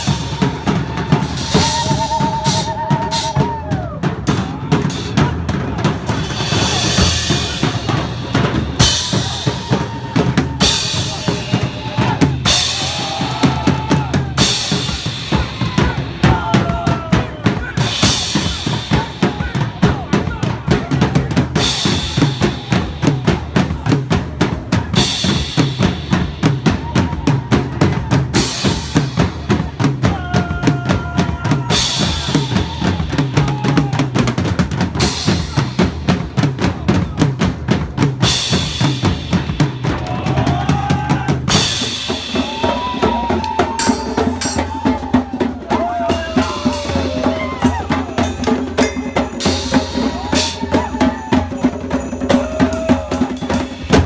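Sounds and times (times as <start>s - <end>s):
drum-heavy music: 0.0s - 54.0s.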